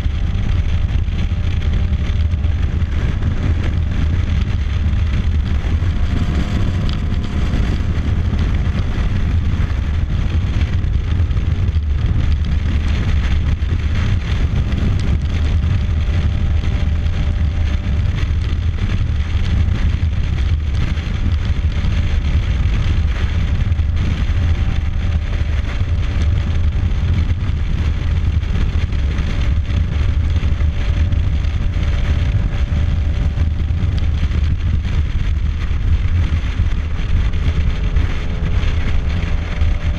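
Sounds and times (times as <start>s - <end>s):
motorcycle engine and tyres drone: 0.0s - 39.9s
wind buffeting microphone: 0.0s - 39.9s.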